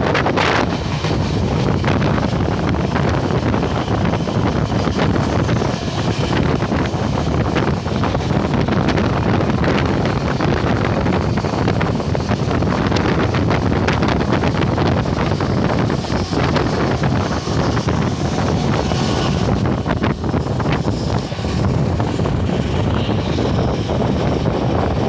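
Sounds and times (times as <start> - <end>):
freight train passing: 0.0 - 25.0
wind buffeting microphone: 0.0 - 25.0.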